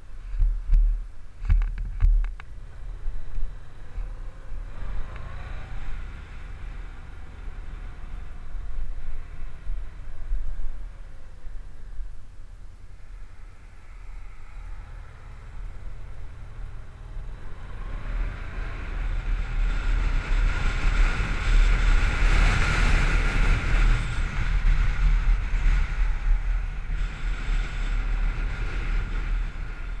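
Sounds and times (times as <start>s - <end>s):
motorcycle engine and road rumble: 0.0s - 30.0s
wind rushing over camera: 0.0s - 30.0s.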